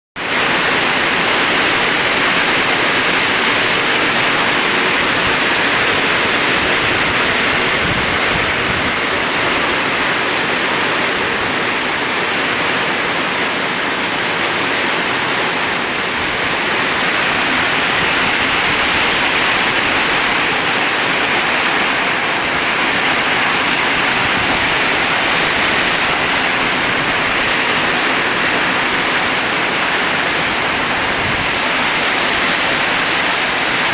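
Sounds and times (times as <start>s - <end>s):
heavy rain in strong wind: 0.2s - 33.9s.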